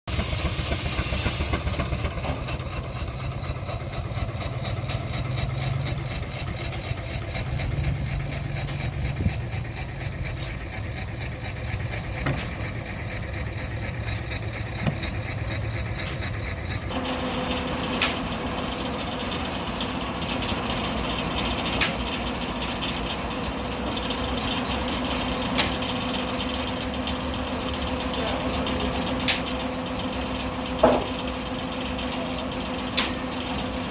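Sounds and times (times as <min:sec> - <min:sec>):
steam-powered sawmill running: 0:00.1 - 0:33.9.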